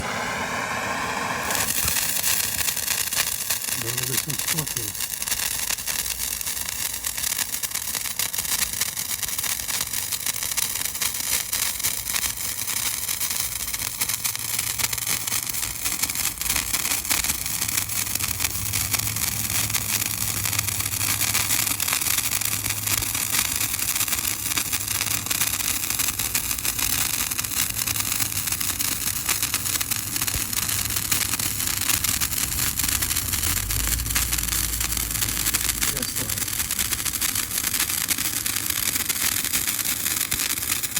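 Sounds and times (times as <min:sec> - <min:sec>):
sparkler crackling: 0:00.0 - 0:40.9.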